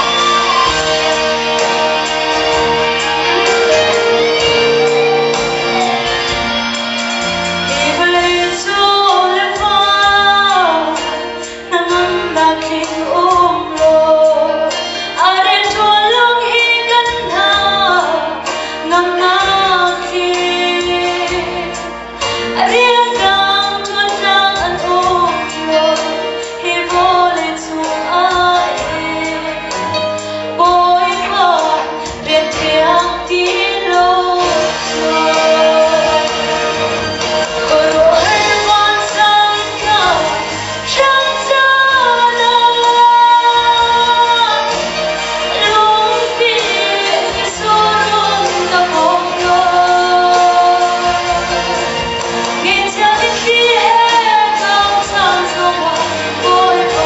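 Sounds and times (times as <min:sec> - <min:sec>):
instrumental accompaniment: 0:00.0 - 0:57.0
woman singing: 0:07.7 - 0:36.8, 0:37.5 - 0:51.9, 0:52.5 - 0:57.0.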